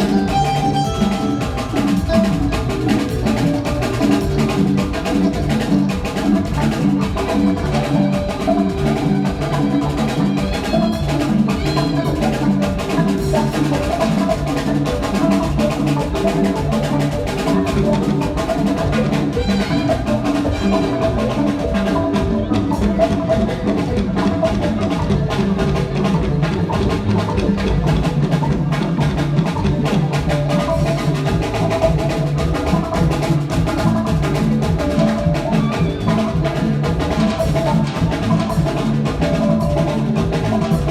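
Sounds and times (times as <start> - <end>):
drum kit and hand percussion: 0.0 - 40.9
sustained pitched instruments: 0.0 - 40.9.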